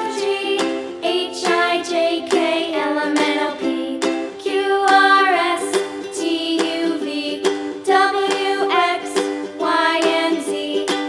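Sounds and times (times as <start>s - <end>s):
plucked-string music with beat: 0.0s - 11.0s.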